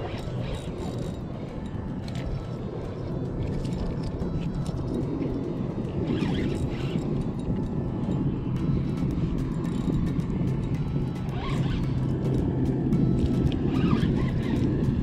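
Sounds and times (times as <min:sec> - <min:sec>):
motorboat engine running: 0:00.0 - 0:15.0
water noise: 0:00.0 - 0:15.0
wind: 0:00.0 - 0:15.0.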